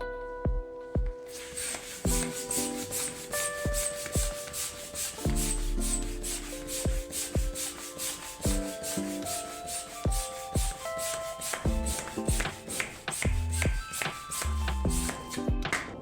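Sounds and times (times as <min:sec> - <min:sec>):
synth music with kick drum: 0:00.0 - 0:16.0.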